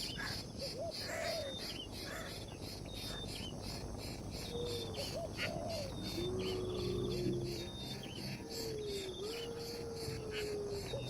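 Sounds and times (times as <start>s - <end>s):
bird calls and chirps: 0.0s - 11.0s
insect chorus pulsing: 0.0s - 11.0s.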